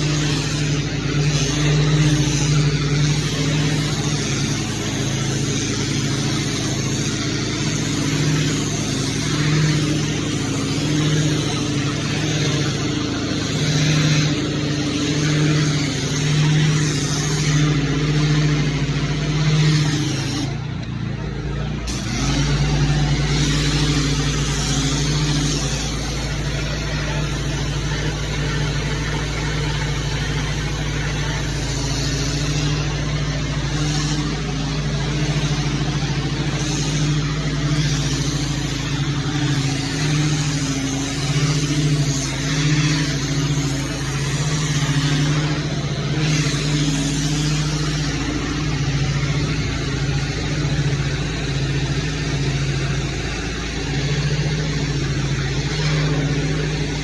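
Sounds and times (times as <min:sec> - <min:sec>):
high-pressure water spray hissing: 0:00.0 - 0:57.0
pressure washer engine running: 0:00.0 - 0:57.0.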